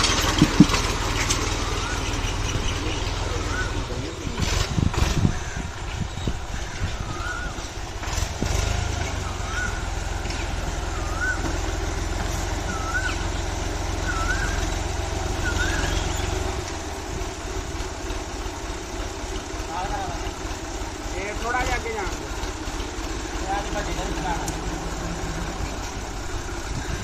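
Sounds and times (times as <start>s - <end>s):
tractor engine rumbling: 0.0s - 27.0s.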